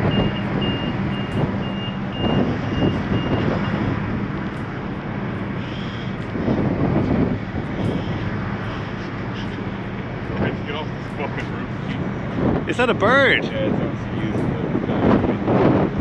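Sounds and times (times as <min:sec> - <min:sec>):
low hum of ship machinery: 0:00.0 - 0:16.0
wind buffeting microphone: 0:00.0 - 0:16.0.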